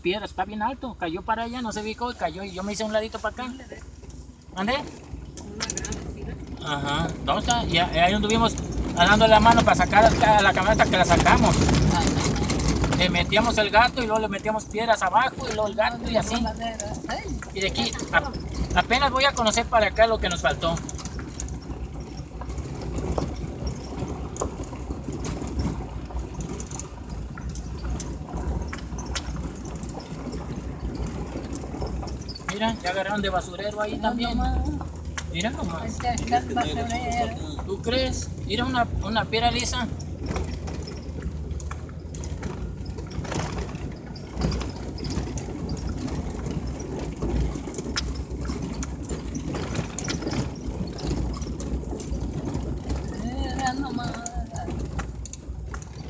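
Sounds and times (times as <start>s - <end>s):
engine and tyres rumbling: 0.0s - 56.0s
vehicle knocks and rattles: 0.0s - 56.0s.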